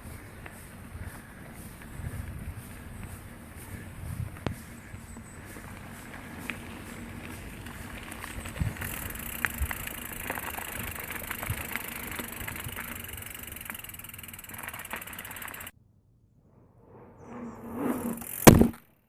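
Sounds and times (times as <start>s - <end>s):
bike rattling over bumps: 0.0s - 15.7s, 18.0s - 18.8s
bike tyres rolling: 0.0s - 15.8s, 16.8s - 18.8s.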